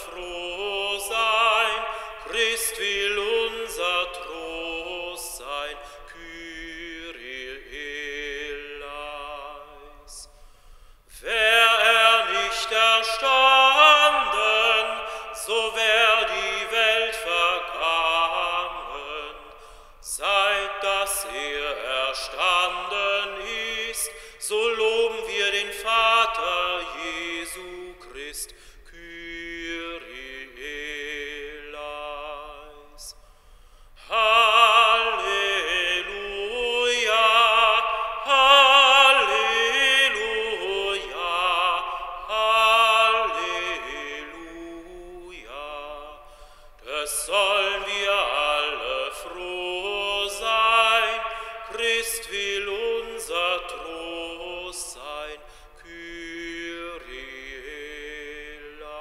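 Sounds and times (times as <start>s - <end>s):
operatic singing voice: 0.0s - 10.4s, 11.1s - 33.2s, 33.9s - 59.0s.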